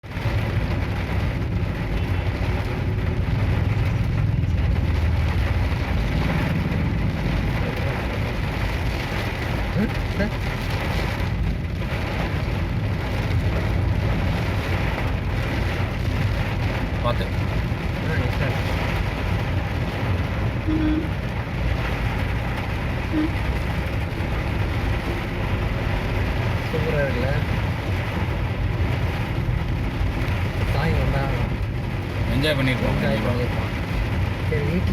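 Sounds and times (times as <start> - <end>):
car engine and tyres rumbling: 0.0 - 34.9
rain hissing: 0.0 - 34.9.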